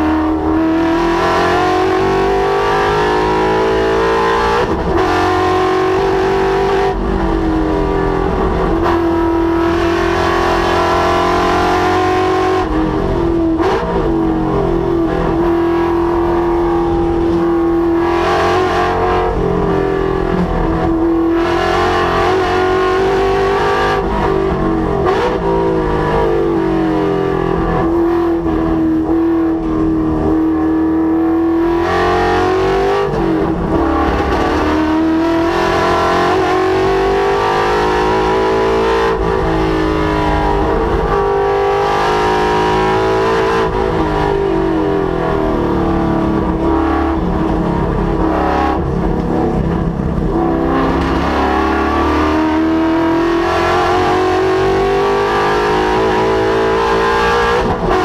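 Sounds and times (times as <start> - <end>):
car engine revving on track: 0.0 - 58.0.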